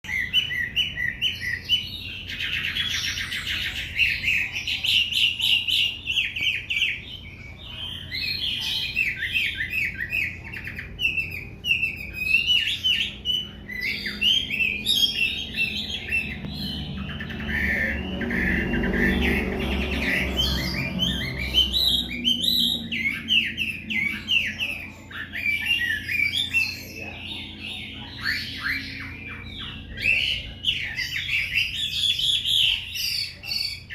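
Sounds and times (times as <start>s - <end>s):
bird singing whistled phrases: 0.0s - 27.2s.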